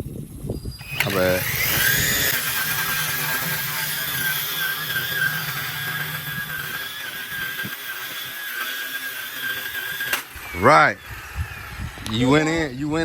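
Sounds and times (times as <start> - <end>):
lawn edger whine: 0.0 - 13.0
lower running engine sound: 0.1 - 13.0.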